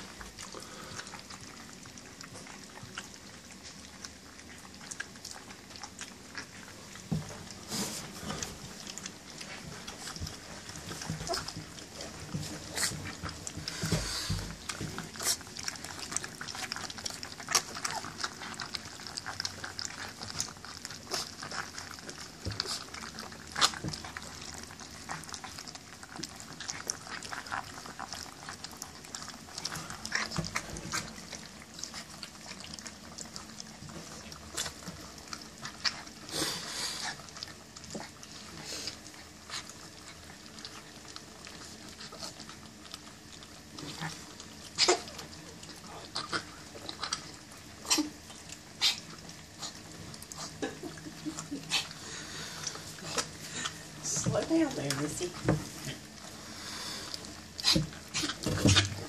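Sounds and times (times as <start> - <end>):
puppies chewing and smacking: 0.0 - 59.0.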